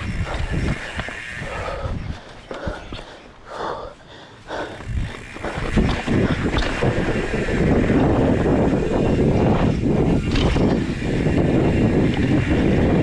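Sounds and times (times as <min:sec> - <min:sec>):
wind rumble on microphone: 0:00.0 - 0:03.2, 0:04.5 - 0:13.0
bike tyres on dirt: 0:00.0 - 0:13.0.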